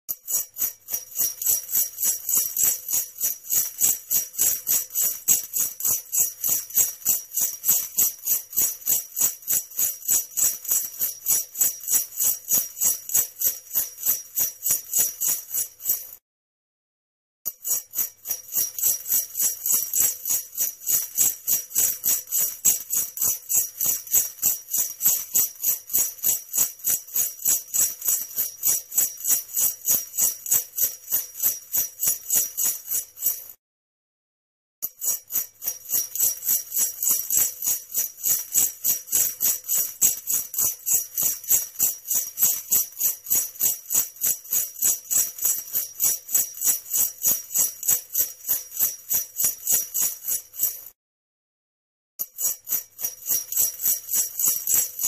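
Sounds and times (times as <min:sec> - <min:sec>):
sleigh bells jingling: 0:00.1 - 0:16.2, 0:17.5 - 0:33.6, 0:34.8 - 0:51.0, 0:52.2 - 0:55.0.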